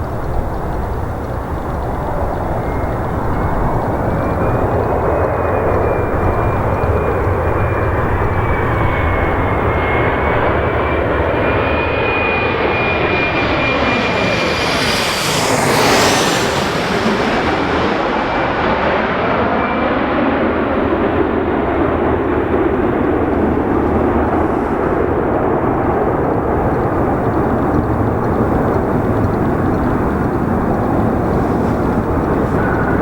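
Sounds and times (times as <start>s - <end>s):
jet passing with high whine: 0.0s - 33.0s.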